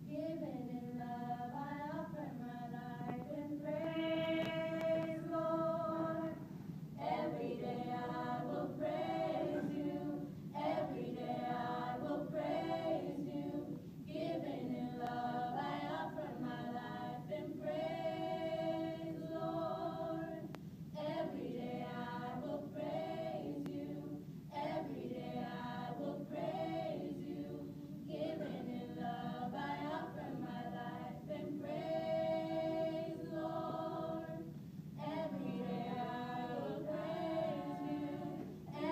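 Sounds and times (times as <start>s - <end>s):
choir singing a cappella: 0.0s - 38.9s.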